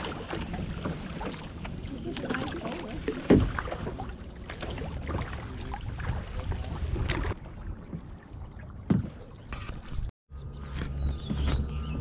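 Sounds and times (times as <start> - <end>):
paddle strokes in water: 0.0 - 10.0.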